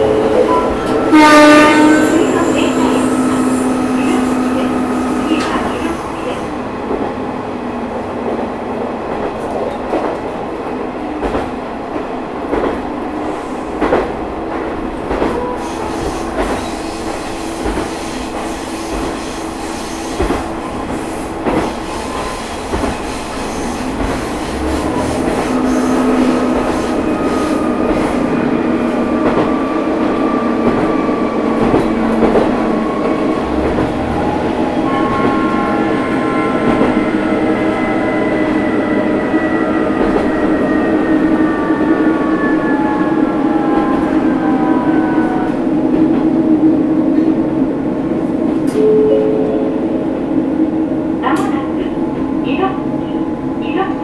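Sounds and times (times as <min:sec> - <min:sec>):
diesel railcar engine drone: 0:00.0 - 0:08.6, 0:12.6 - 0:54.0.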